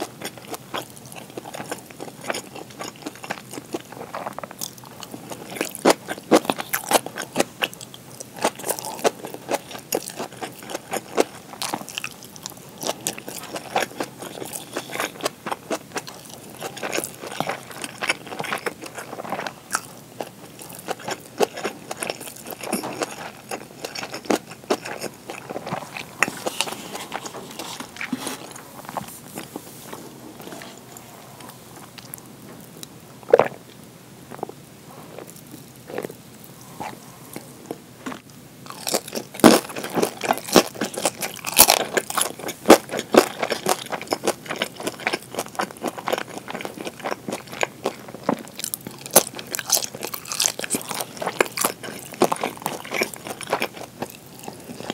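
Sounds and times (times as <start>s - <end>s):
chewing and biting food: 0.0s - 29.6s, 30.3s - 54.9s.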